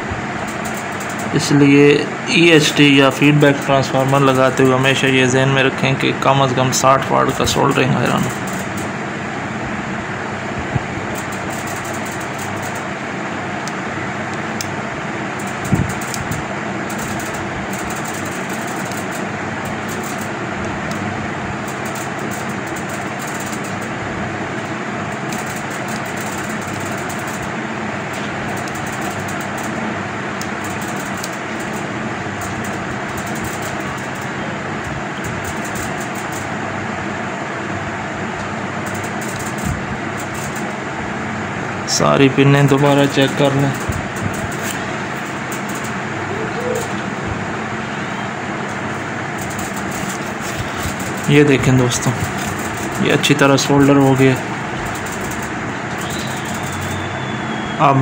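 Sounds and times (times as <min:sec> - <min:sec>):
whirring room noise with hum: 0:00.0 - 0:58.0.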